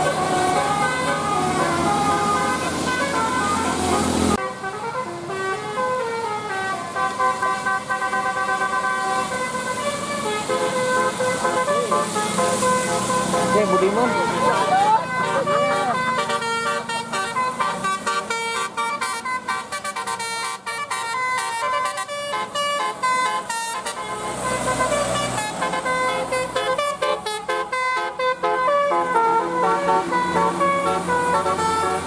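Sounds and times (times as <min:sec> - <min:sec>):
bus horn playing a melody: 0:00.0 - 0:32.0.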